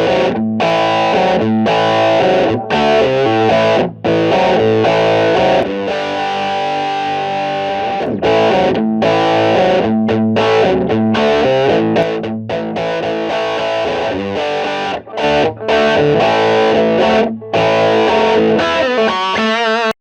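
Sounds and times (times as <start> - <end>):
distorted electric guitar riff: 0.0 - 20.0.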